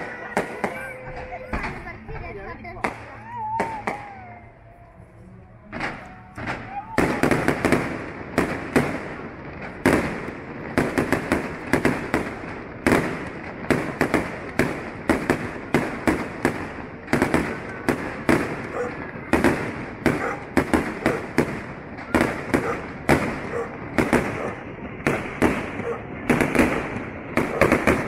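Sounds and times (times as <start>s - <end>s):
firework crackling: 0.0s - 4.6s, 5.6s - 28.0s.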